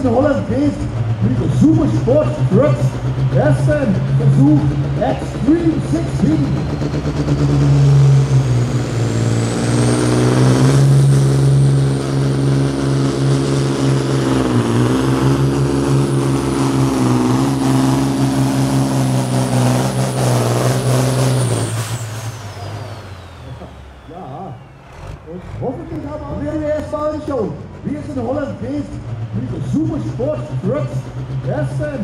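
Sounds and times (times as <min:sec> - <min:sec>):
diesel truck engine at full load: 0:00.0 - 0:32.0.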